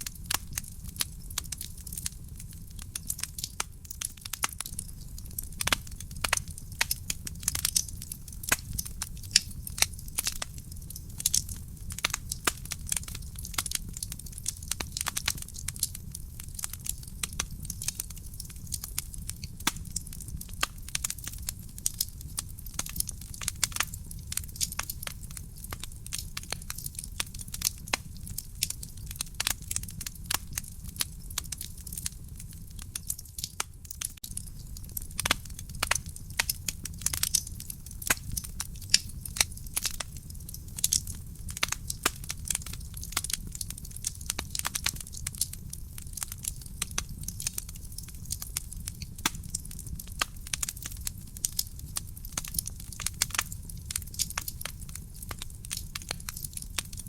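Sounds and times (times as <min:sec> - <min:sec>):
fire low rumble: 0:00.0 - 0:57.0
wood fire crackling and popping: 0:00.0 - 0:57.0.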